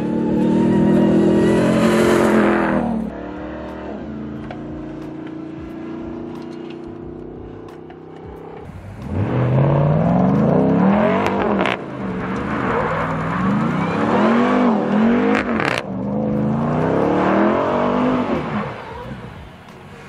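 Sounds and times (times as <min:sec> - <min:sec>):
engine revving hard: 0:00.0 - 0:20.0.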